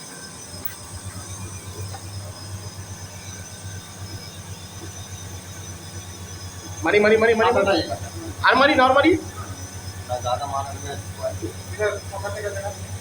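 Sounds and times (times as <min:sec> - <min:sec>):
air conditioner pulsing hum: 0:00.0 - 0:13.0.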